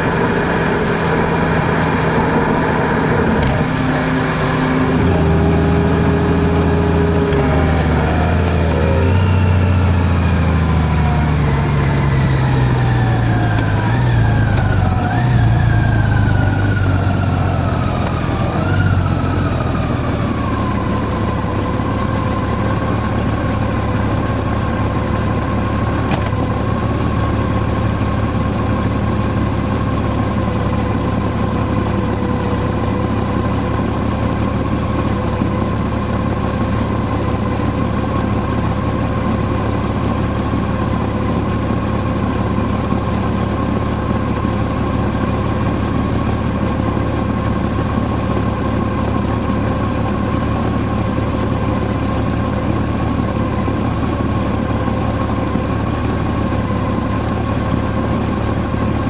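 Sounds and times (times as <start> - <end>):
constant whine: 0.0 - 59.0
vehicle engine rumble: 0.0 - 59.0.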